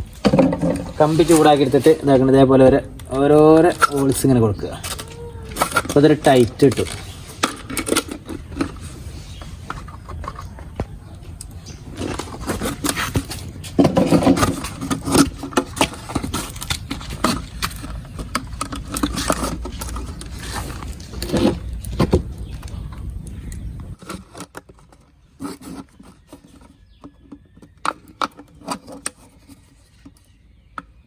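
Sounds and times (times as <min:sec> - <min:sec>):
plastic bottle scraping and crackling: 0:00.0 - 0:30.5.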